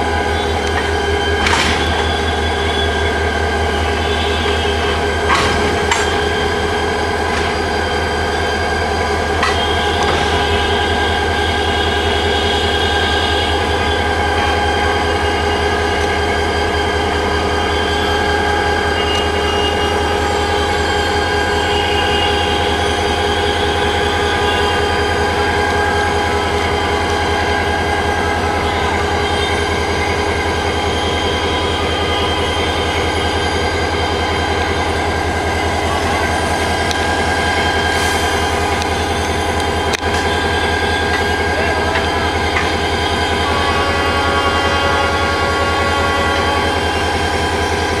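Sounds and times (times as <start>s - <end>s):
diesel locomotive engine idling: 0.0s - 48.0s.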